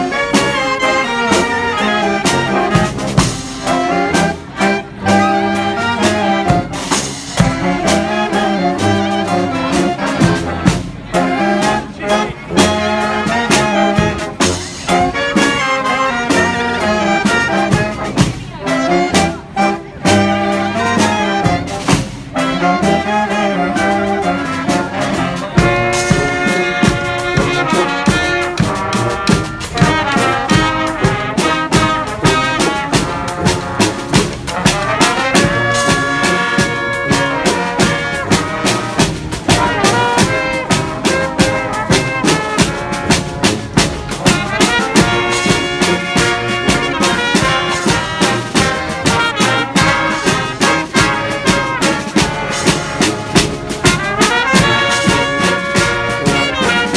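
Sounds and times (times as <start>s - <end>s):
brass band playing: 0.0s - 56.9s
steady drum beat: 0.0s - 56.9s.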